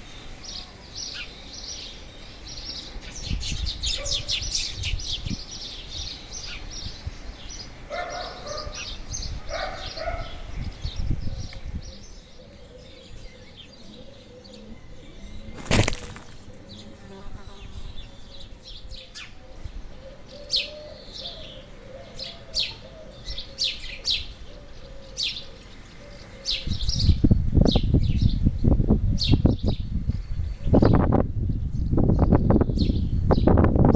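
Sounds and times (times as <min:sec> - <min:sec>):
small birds chirping: 0:00.0 - 0:33.7.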